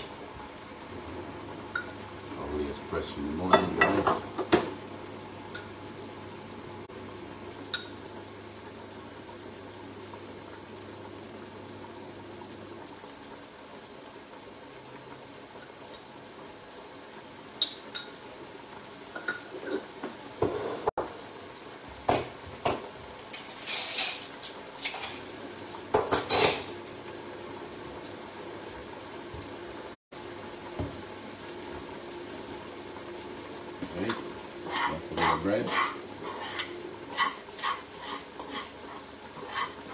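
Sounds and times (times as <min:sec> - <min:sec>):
pans cooking hiss: 0:00.0 - 0:39.9.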